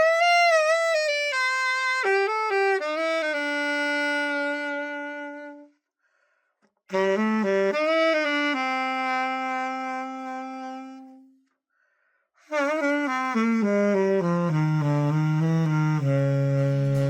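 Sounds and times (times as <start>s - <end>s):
alto saxophone playing: 0.0s - 5.8s, 6.9s - 11.4s, 12.4s - 17.0s.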